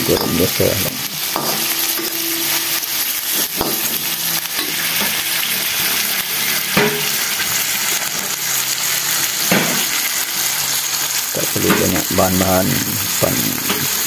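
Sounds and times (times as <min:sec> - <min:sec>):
grubs sizzling in hot oil: 0:00.0 - 0:14.0.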